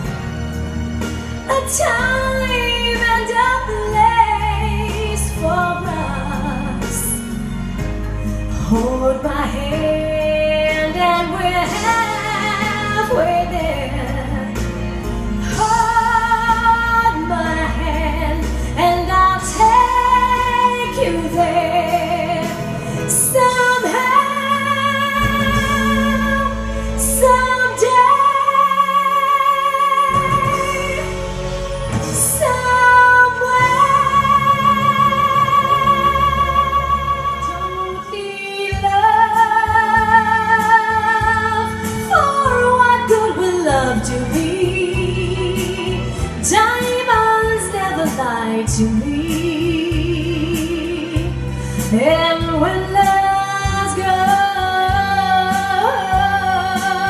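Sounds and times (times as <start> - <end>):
backing music: 0.0 - 57.0
woman singing into microphone: 1.4 - 7.5, 8.5 - 57.0.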